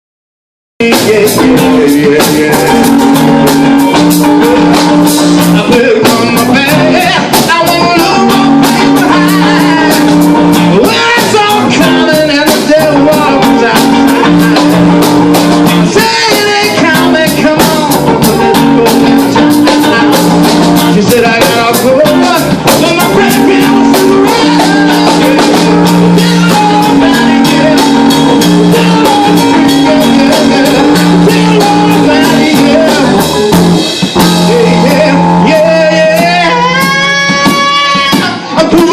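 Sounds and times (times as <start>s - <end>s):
loud rock music with singing: 0.8s - 38.9s.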